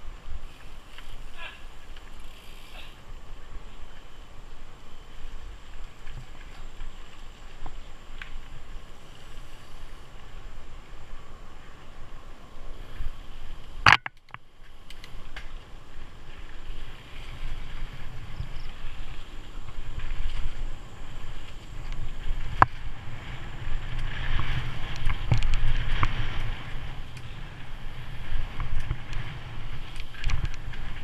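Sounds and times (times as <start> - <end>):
wind rumble on microphone: 0.0 - 31.0
bike rattling and clicking: 0.1 - 31.0.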